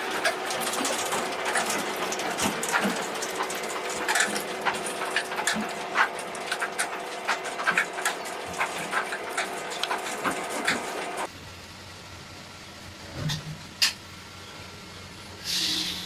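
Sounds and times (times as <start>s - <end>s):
woodworking machinery humming: 0.0s - 16.0s.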